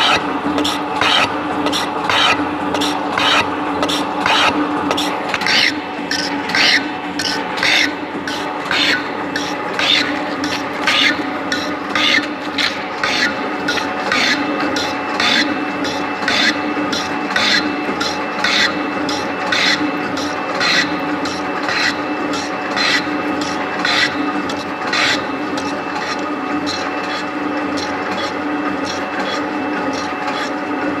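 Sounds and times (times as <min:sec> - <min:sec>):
cutting tool scraping metal: 0:00.0 - 0:30.6
motor hum: 0:00.0 - 0:31.0.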